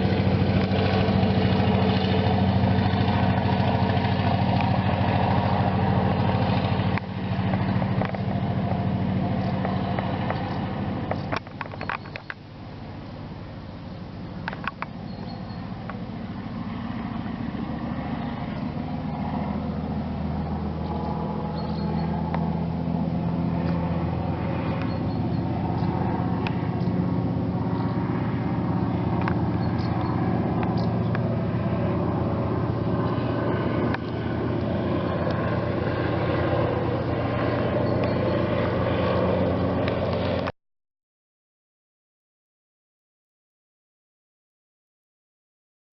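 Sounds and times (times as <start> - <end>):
radial aircraft engine droning: 0.0 - 40.5.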